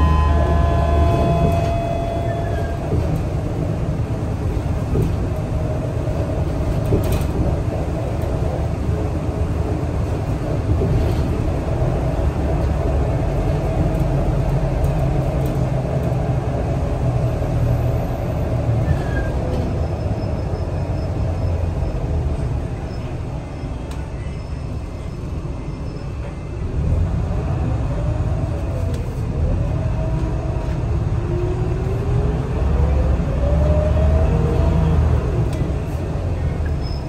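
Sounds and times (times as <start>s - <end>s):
bus engine drone: 0.0s - 37.0s
road noise: 0.0s - 37.0s.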